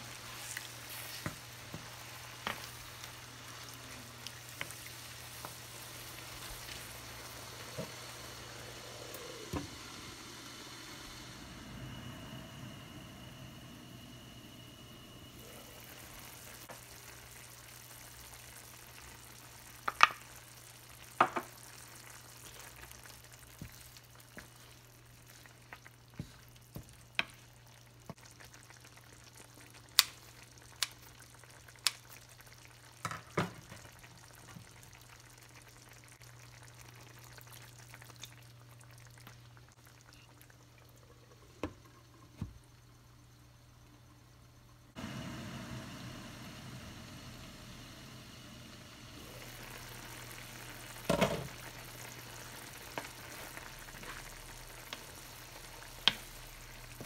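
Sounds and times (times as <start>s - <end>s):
food simmering in a pan: 0.0s - 57.0s.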